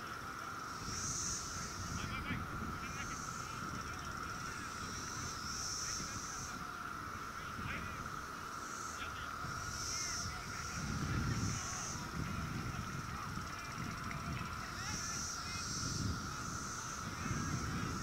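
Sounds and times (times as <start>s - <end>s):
high hiss: 0.0s - 18.0s
low wind rumble: 0.0s - 18.0s.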